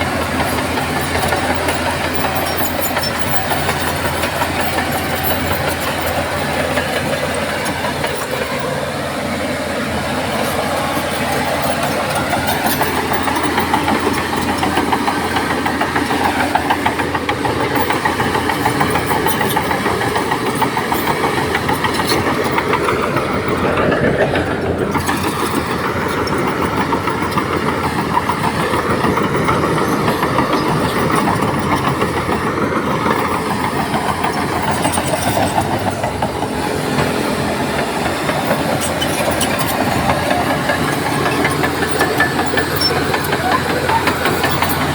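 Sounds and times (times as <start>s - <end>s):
heavy diesel engine droning: 0.0s - 44.9s.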